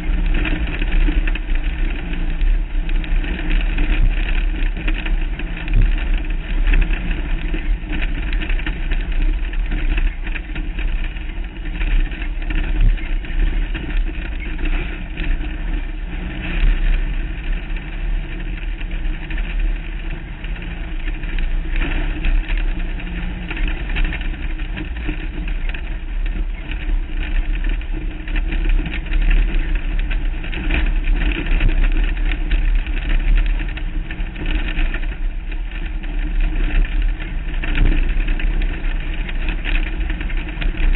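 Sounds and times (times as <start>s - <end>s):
race car engine running hard: 0.0s - 40.9s
wind rumble on microphone: 0.0s - 40.9s.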